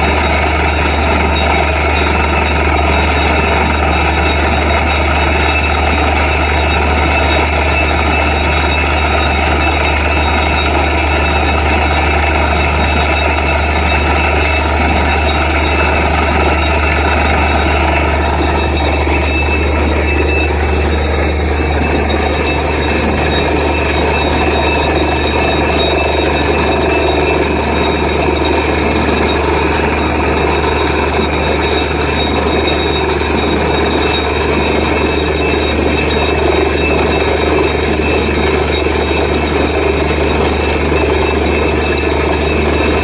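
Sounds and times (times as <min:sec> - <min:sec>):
drilling rig engine humming: 0:00.0 - 0:43.0.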